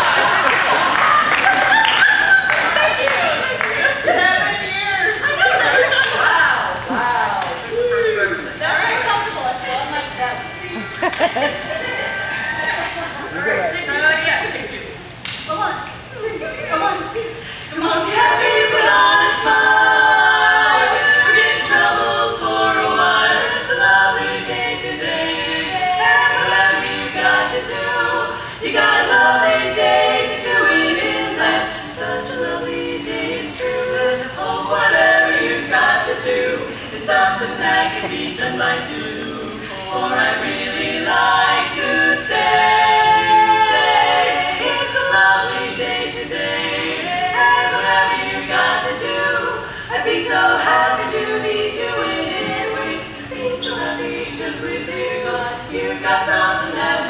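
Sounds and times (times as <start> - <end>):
women singing a cappella harmony: 0.0 - 57.0.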